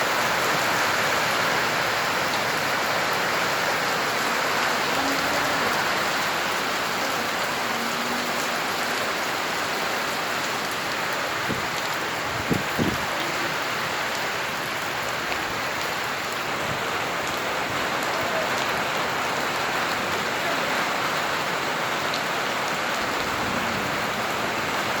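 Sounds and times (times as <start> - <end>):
heavy rain hissing: 0.0 - 25.0.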